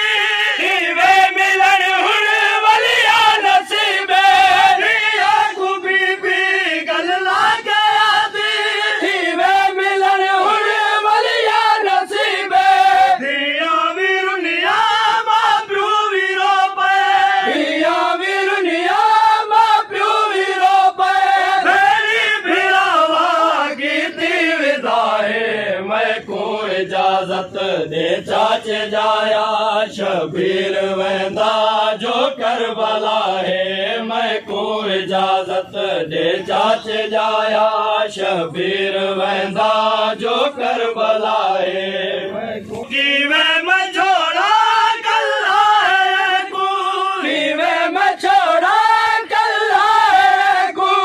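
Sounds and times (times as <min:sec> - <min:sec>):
men chanting a lament: 0:00.0 - 0:51.0.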